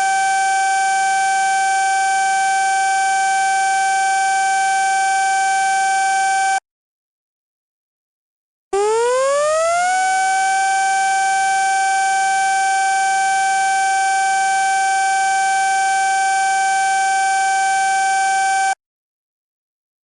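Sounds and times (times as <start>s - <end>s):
warning siren: 0.0s - 6.6s, 8.8s - 18.8s.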